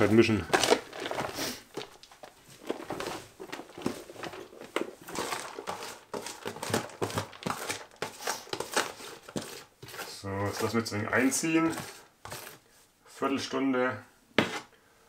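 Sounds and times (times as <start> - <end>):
hands mixing shredded cabbage: 0.0 - 12.8.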